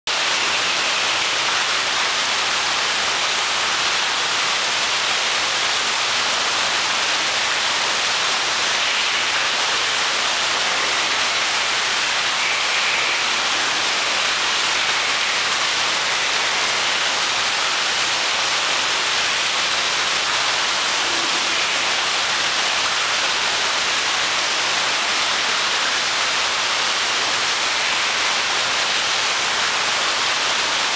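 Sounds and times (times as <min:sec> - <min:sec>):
falling water rushing: 0:00.1 - 0:30.9.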